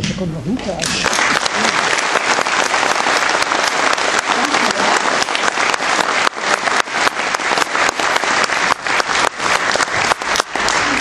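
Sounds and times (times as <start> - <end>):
audience applause: 1.0 - 11.0.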